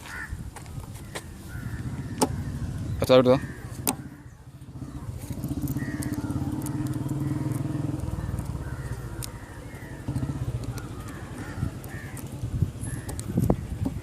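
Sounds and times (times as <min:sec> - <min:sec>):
motorcycle engine idling: 0:01.0 - 0:14.0.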